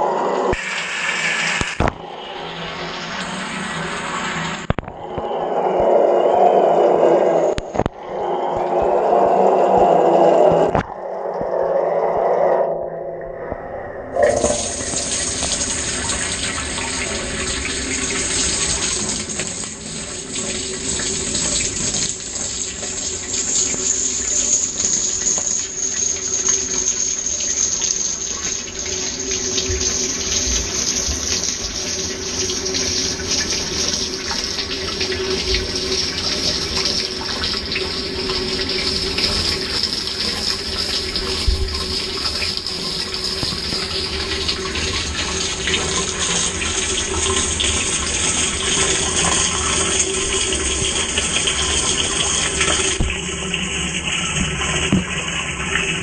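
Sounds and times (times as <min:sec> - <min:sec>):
water pouring into tub: 0:00.0 - 0:12.8, 0:14.1 - 0:56.0.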